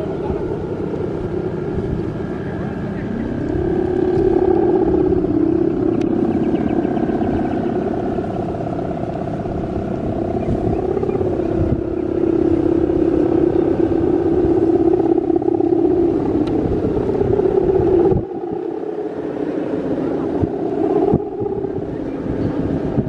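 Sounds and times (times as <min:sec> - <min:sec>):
kite hummer droning in wind: 0:00.0 - 0:23.0.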